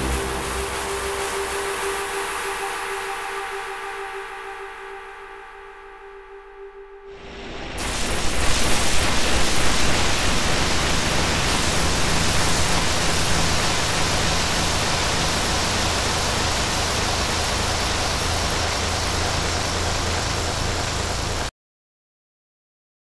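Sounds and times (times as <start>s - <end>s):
hiss-like noise drone music: 0.0s - 21.5s
low hum: 0.0s - 21.5s.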